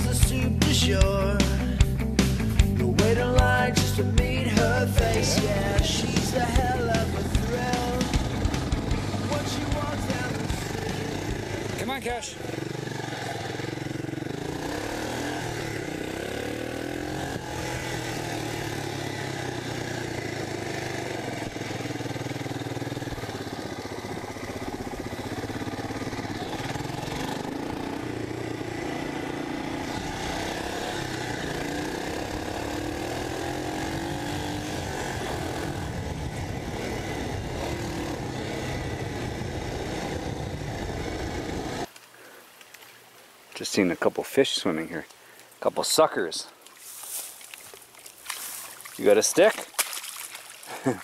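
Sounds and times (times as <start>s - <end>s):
single-cylinder engine revving: 0.0s - 41.9s.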